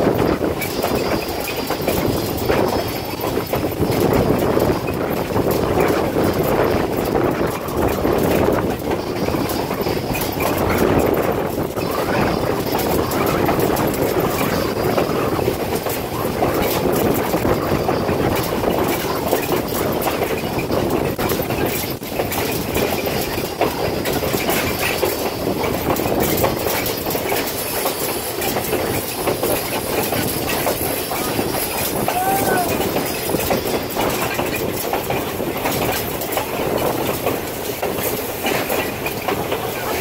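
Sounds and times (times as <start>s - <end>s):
train car rumbling: 0.0s - 40.0s
wheels clicking on rails: 0.0s - 40.0s.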